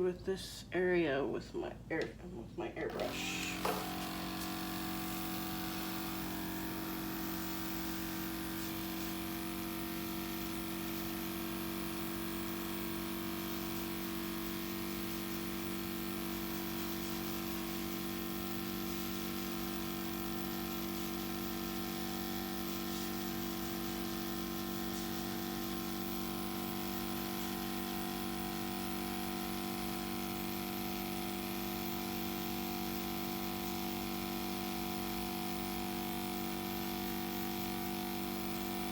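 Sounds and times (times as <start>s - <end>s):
airbrush compressor humming: 2.9s - 38.9s.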